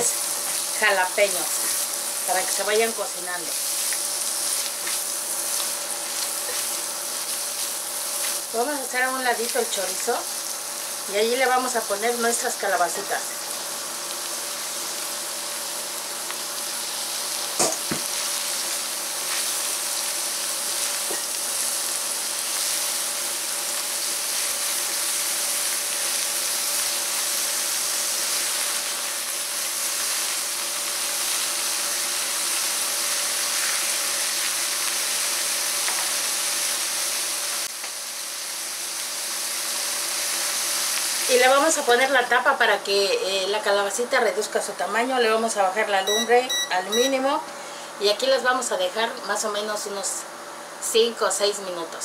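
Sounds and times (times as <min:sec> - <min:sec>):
food sizzling in a skillet: 0:00.0 - 0:43.0.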